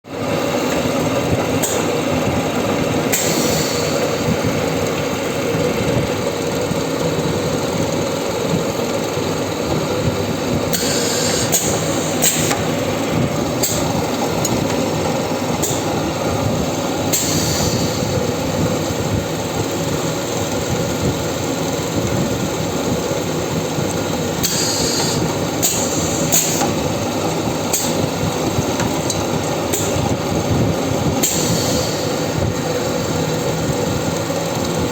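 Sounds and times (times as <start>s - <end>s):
drilling machine droning: 0.1s - 34.9s.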